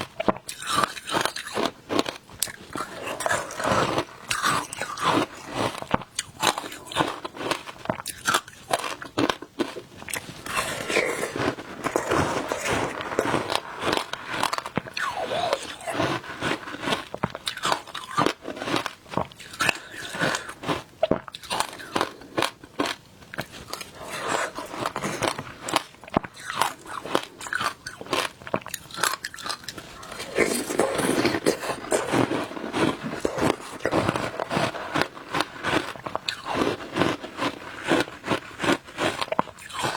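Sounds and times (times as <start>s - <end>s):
shaved ice being chewed: 0.0s - 39.9s.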